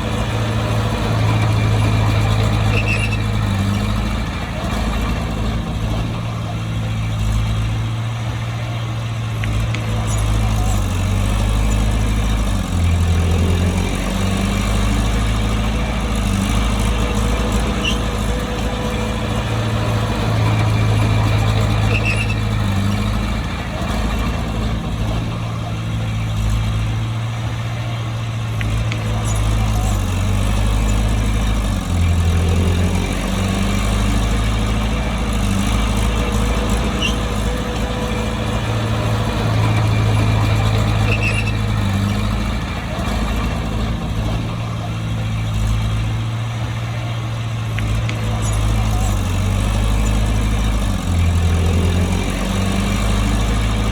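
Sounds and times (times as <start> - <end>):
bulldozer diesel engine drone: 0.0 - 53.9.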